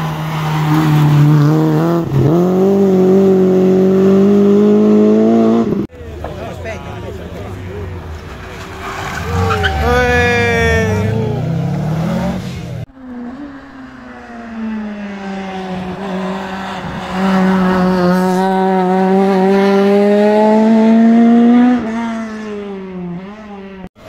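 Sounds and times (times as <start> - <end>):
rally car engine at full throttle: 0.0 - 24.0.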